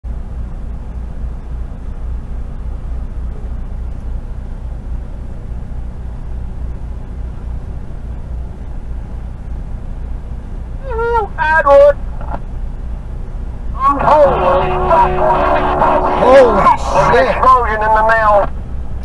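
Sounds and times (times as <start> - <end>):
vehicle engine droning: 0.1 - 19.0.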